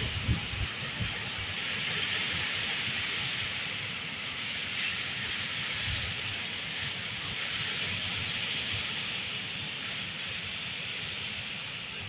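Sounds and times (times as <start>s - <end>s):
wind rumbling on microphone: 0.0s - 12.0s
wind rushing through trees: 0.0s - 12.0s.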